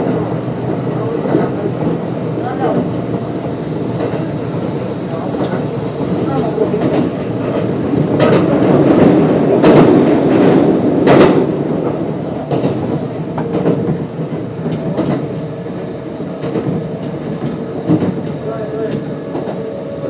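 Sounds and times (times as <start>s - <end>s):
electric train rumble: 0.0s - 20.0s.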